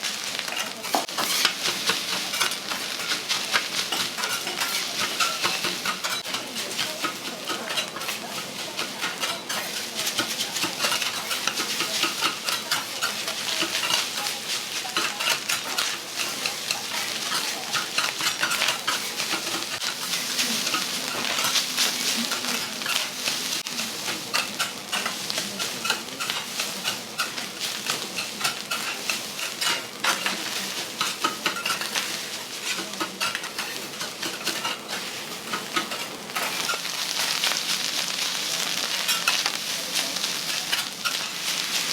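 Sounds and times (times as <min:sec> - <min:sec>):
food sizzling on griddle: 0:00.0 - 0:41.9
metal spatulas clacking and scraping: 0:00.4 - 0:37.6, 0:38.9 - 0:41.9.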